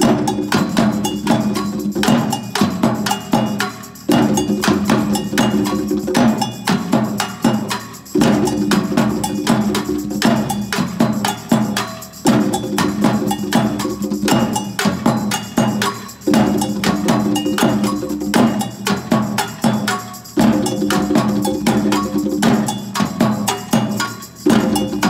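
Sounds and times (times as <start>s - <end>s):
hand drums: 0.0s - 25.0s
struck hand percussion: 0.0s - 25.0s.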